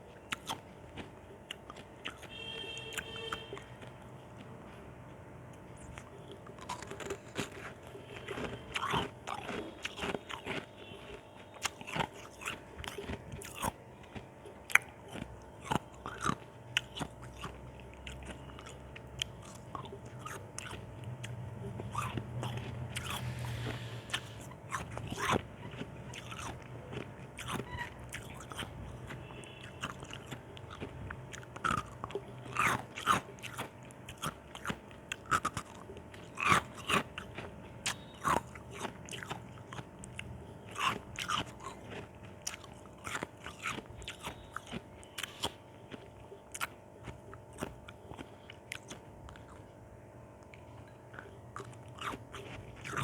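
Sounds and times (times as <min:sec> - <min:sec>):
ice crunching between teeth: 0:05.8 - 0:49.6, 0:50.5 - 0:53.0.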